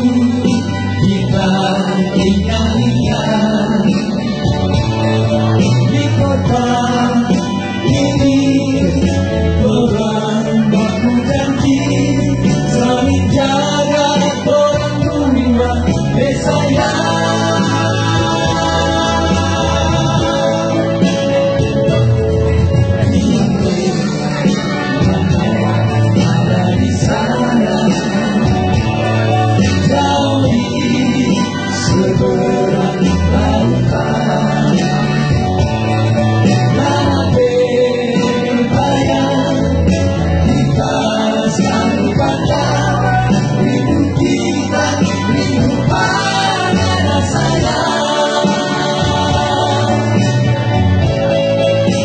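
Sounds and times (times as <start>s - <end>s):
electronic keyboard: 0.0s - 52.0s
men singing into microphones: 0.0s - 52.0s.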